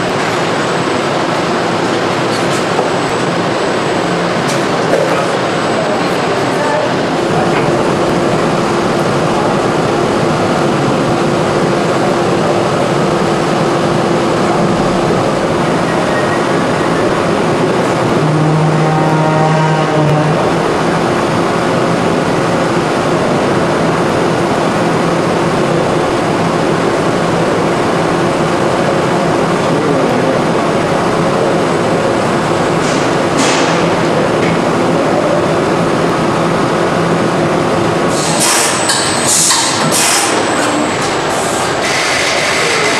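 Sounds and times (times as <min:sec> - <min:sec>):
production line machinery noise: 0:00.0 - 0:42.9.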